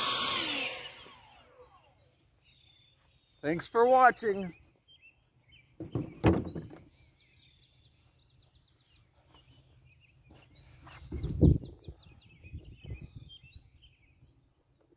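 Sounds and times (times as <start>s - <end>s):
songbirds singing: 0.5s - 14.9s.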